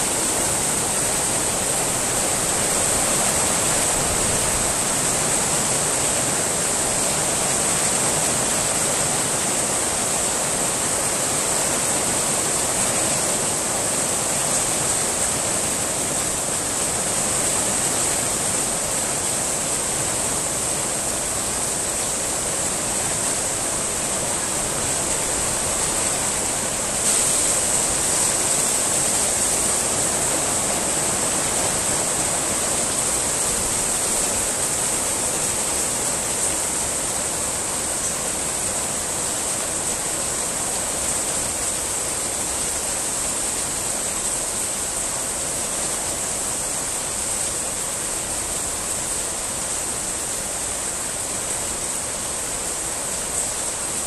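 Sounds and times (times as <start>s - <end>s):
rain on stone paving: 0.0s - 54.0s.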